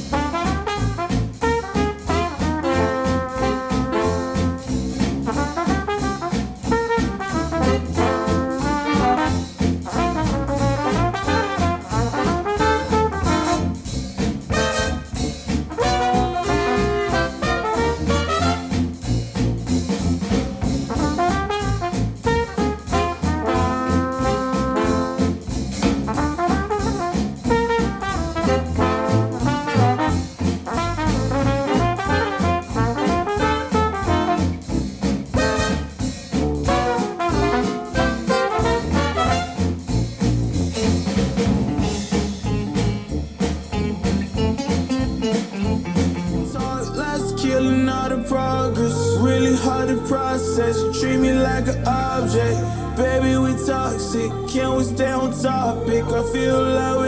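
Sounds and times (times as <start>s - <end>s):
instrumental music with steady beat: 0.0s - 48.3s.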